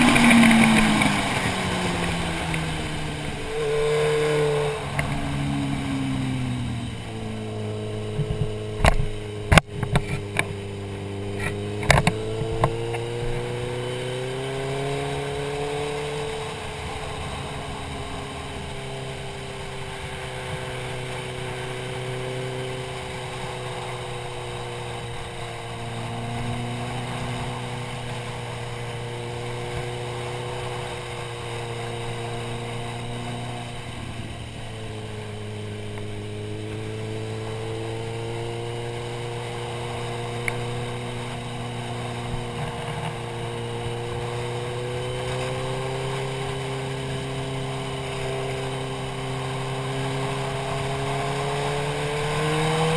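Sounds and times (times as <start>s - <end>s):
motorcycle engine running: 0.0s - 52.9s
wind and road rush: 0.0s - 52.9s.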